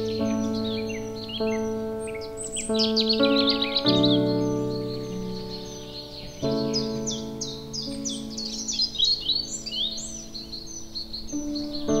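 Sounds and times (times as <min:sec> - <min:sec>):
soft held music chord: 0:00.0 - 0:12.0
songbirds chirping and twittering: 0:00.0 - 0:12.0.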